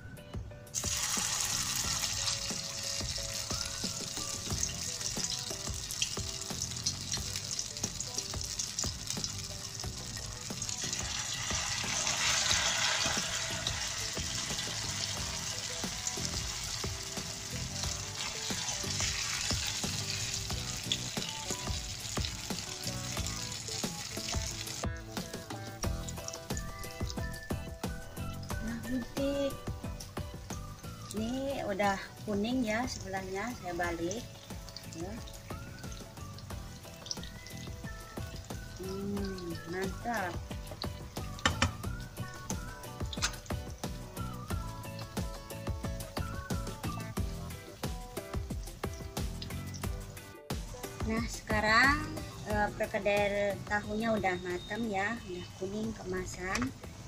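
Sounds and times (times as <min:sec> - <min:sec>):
fritters sizzling in hot oil: 0:00.7 - 0:57.0.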